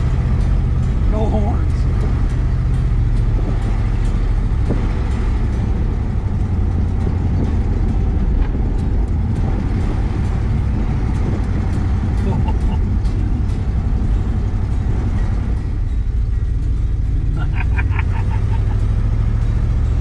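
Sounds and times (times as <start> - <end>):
wind rushing: 0.0 - 16.3
engine and road rumble: 0.0 - 20.0.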